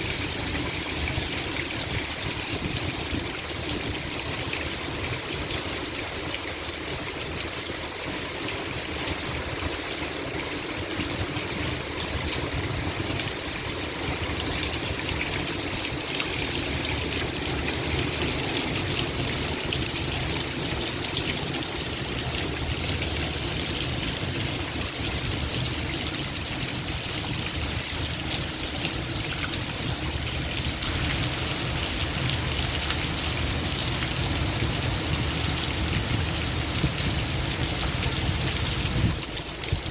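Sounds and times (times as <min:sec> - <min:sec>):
heavy rain pouring: 0:00.0 - 0:39.9
runoff water trickling and gushing: 0:00.0 - 0:39.9.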